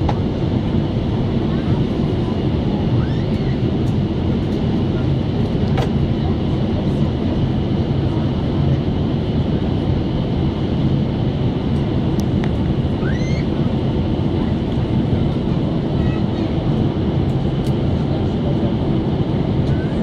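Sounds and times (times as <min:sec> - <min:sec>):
airplane cabin engine rush: 0:00.0 - 0:20.0.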